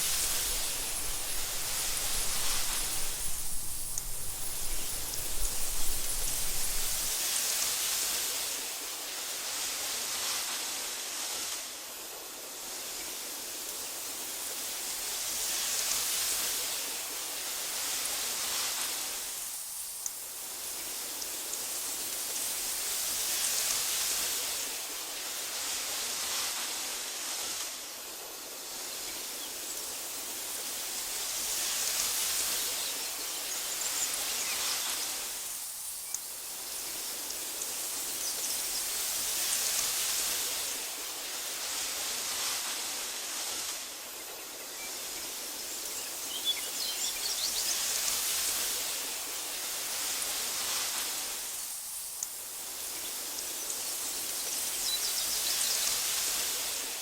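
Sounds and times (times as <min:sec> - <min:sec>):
wind through tall grass: 0:00.0 - 0:57.0.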